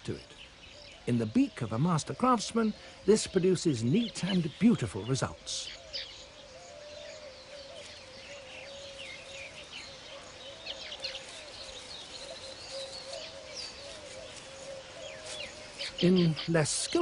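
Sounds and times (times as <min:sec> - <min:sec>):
weaver birds chirping: 0:00.0 - 0:17.0.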